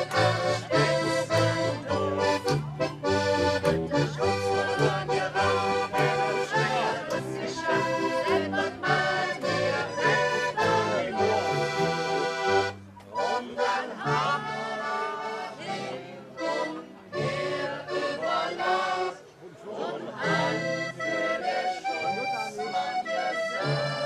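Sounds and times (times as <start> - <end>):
accordion playing lively tune: 0.0 - 19.3, 20.1 - 24.0.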